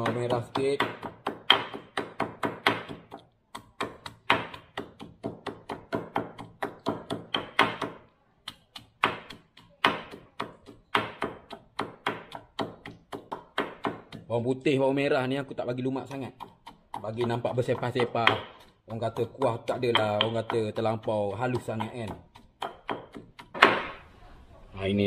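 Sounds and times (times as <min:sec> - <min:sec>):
pestle pounding in mortar: 0:00.0 - 0:24.0.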